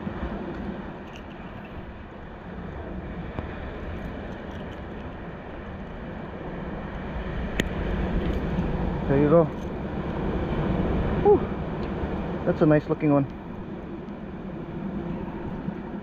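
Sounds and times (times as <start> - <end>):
surf rumble: 0.0 - 16.0.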